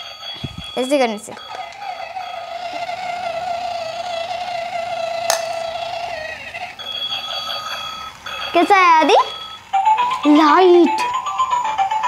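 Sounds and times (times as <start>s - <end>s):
toy electronic buzzing tone: 0.0s - 10.5s.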